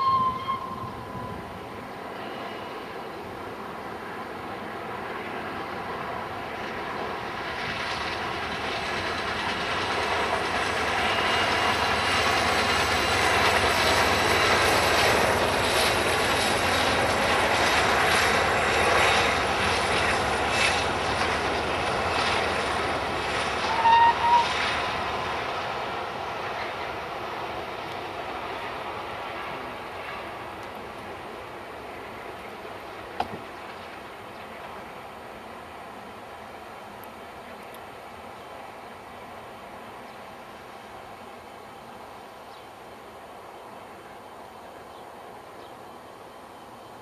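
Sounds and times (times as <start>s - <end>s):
steam train passing: 0.0s - 47.0s.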